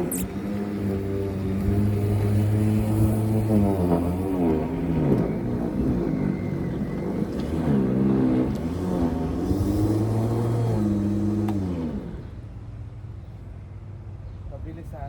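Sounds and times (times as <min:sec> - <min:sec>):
lawn mower engine running: 0:00.0 - 0:12.8.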